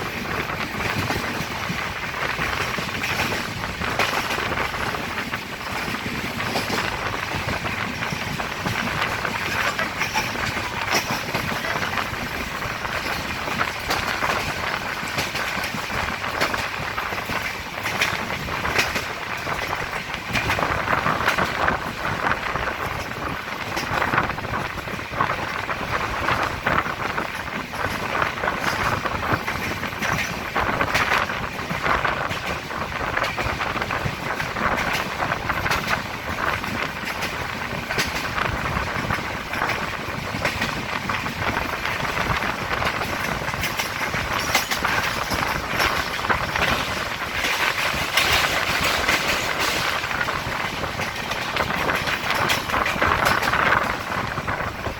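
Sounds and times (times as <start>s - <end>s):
train rumbling on track: 0.0s - 54.9s
wheels clicking on rails: 0.0s - 54.9s.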